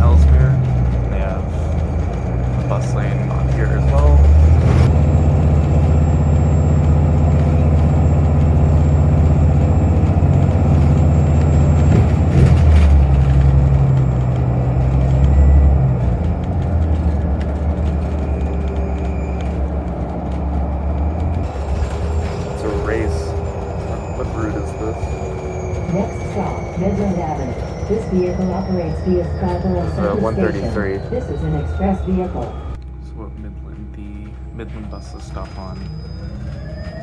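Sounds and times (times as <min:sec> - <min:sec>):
bus engine low drone: 0:00.0 - 0:37.0.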